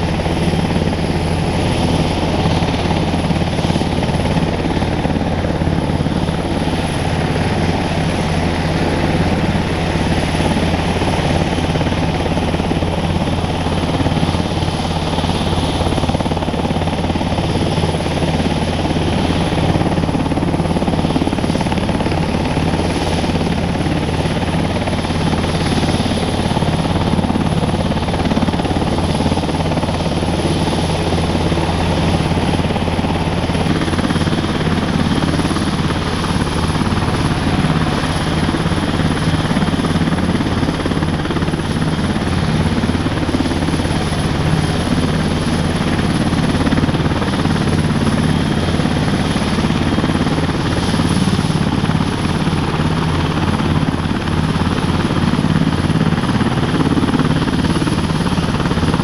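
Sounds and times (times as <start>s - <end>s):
helicopter idling on the ground: 0.0s - 59.0s.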